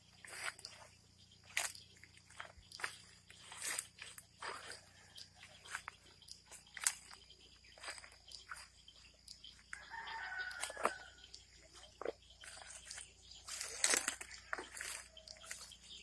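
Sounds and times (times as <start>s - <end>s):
drawn-out bird call: 0.0s - 16.0s.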